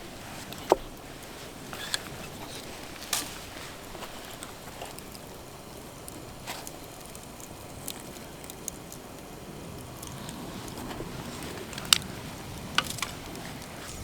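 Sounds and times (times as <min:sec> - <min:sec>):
low hiss: 0:00.0 - 0:14.0
wood fire crackling: 0:00.0 - 0:14.0.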